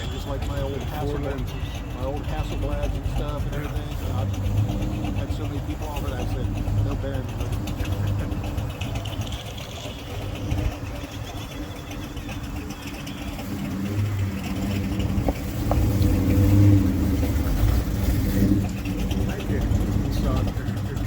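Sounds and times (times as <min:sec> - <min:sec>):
car engine running at low speed: 0:00.0 - 0:21.0.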